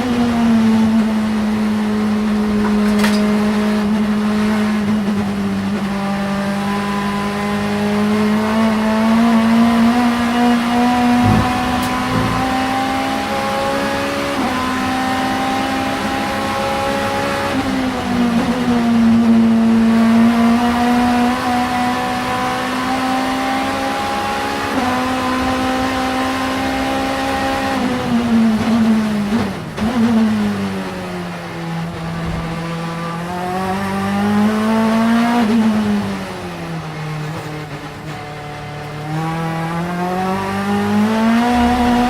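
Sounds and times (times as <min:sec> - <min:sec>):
race car engine at high revs: 0:00.0 - 0:42.0.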